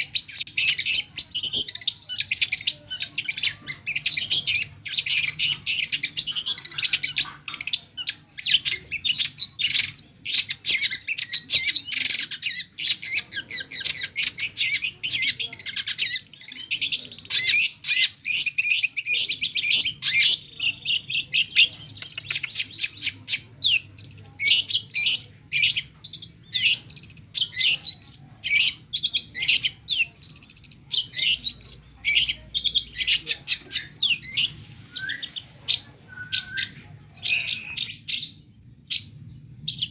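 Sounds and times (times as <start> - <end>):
shrike singing chirps and trills: 0.0 - 39.9.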